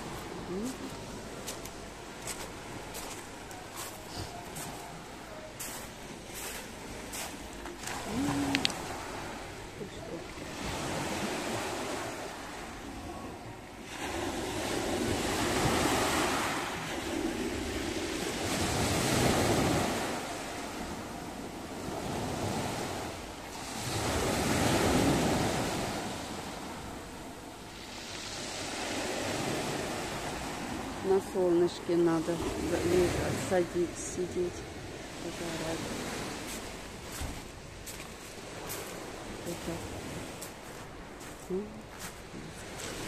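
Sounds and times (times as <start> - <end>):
surf on a pebble beach: 0.0 - 43.0.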